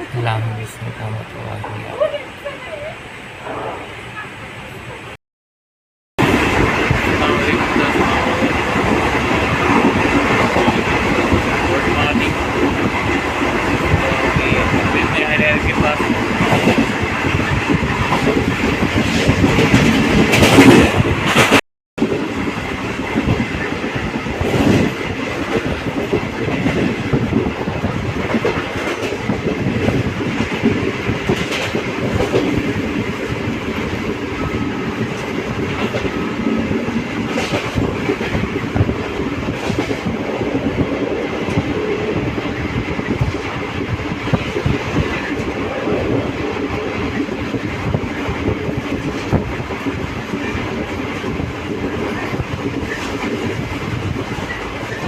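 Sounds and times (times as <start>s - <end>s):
train coaches rumbling: 0.0s - 5.2s, 6.2s - 55.0s
wheels clickety-clack: 6.2s - 55.0s.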